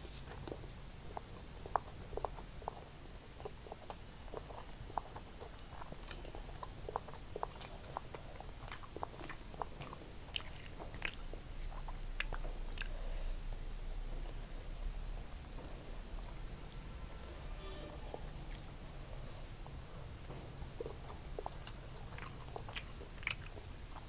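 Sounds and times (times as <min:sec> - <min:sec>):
chewing: 0:00.1 - 0:13.5, 0:14.1 - 0:24.0.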